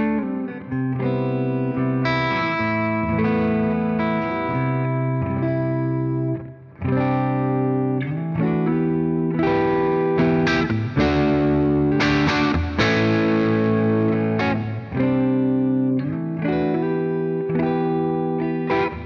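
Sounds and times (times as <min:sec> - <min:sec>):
overdriven electric guitar chords: 0:00.0 - 0:19.0.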